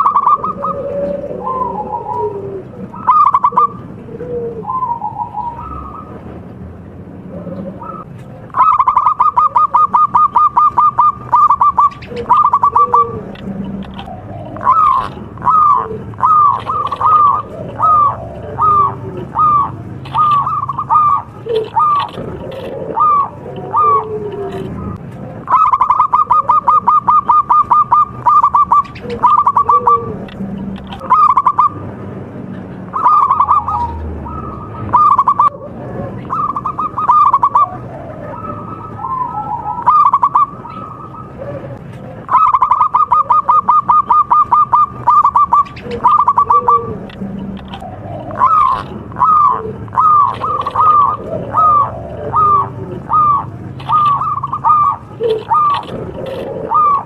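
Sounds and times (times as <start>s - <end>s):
dove cooing: 0.0s - 6.5s, 7.2s - 57.0s.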